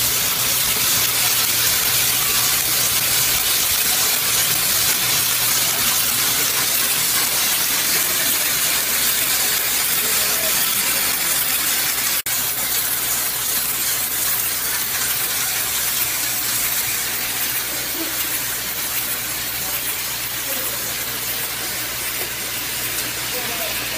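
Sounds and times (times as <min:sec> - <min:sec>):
hiss-like machine noise: 0:00.0 - 0:23.9.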